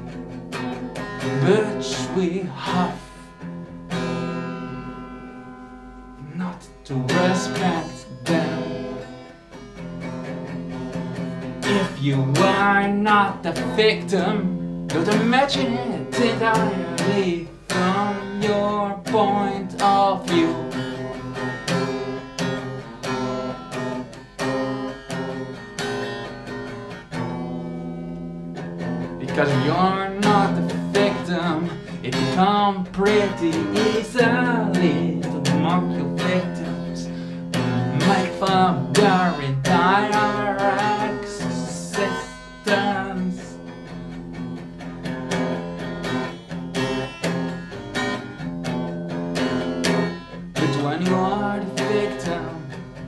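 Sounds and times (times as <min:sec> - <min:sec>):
guitar strumming chords: 0:00.0 - 0:53.0.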